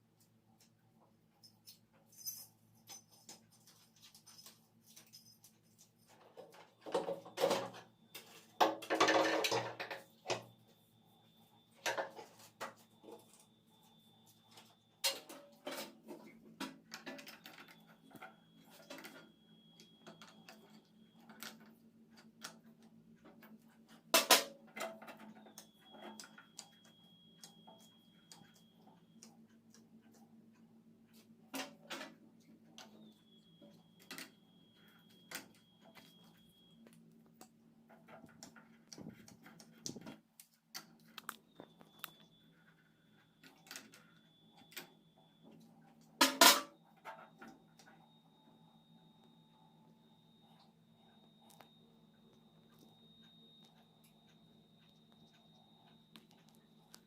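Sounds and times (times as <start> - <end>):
faint high steady tone: 1.4 - 57.0.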